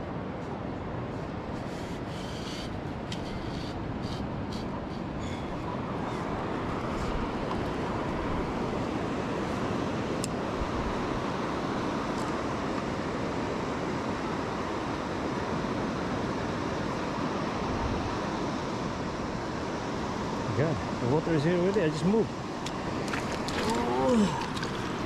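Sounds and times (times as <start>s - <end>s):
sea surf washing over beach: 0.0s - 25.0s.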